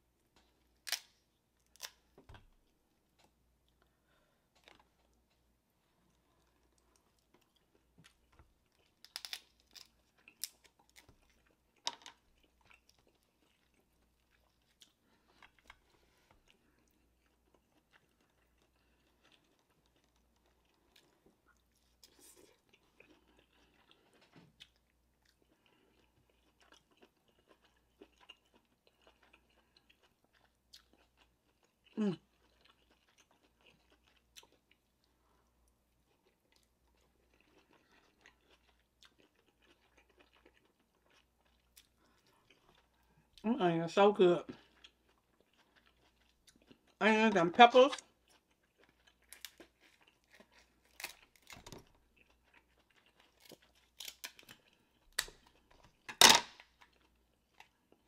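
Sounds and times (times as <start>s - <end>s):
chewing and biting: 6.0s - 43.1s, 44.5s - 47.0s, 48.0s - 58.0s.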